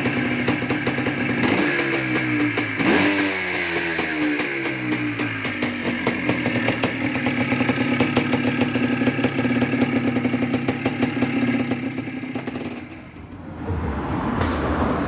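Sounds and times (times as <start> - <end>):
two-stroke engine running: 0.0 - 13.2.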